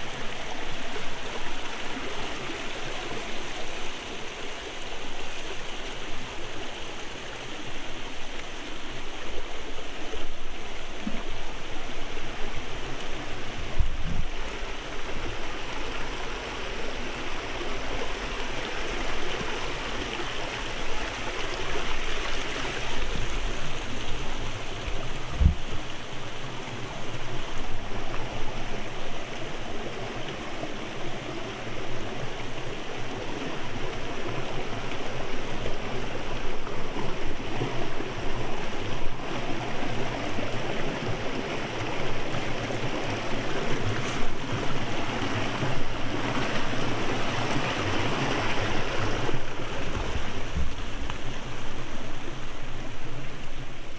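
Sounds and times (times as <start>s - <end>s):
stream rushing over stones: 0.0s - 53.9s.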